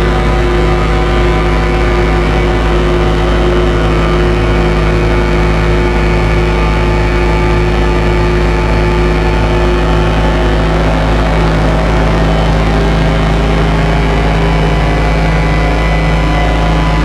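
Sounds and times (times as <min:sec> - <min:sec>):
loud dark drone: 0:00.0 - 0:17.0.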